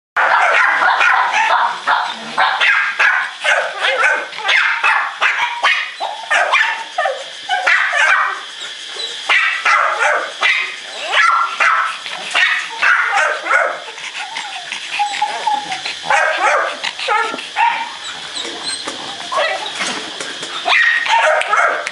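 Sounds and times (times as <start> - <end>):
small dog barking and yipping: 0.2 - 18.2, 19.2 - 19.8, 20.6 - 21.9.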